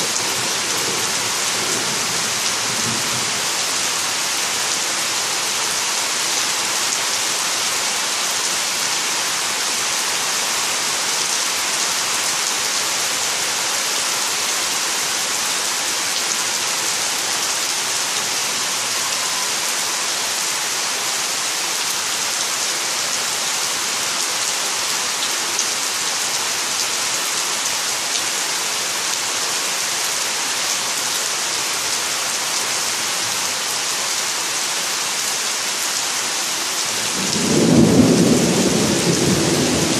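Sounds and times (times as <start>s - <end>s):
heavy rain on trees and lawn: 0.0s - 39.9s.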